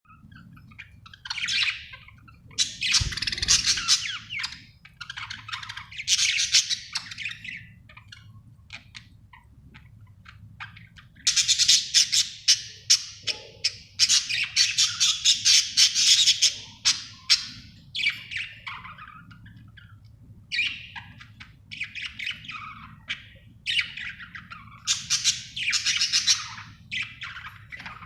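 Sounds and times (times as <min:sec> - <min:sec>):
budgerigar chirping and chattering: 0:00.1 - 0:28.0.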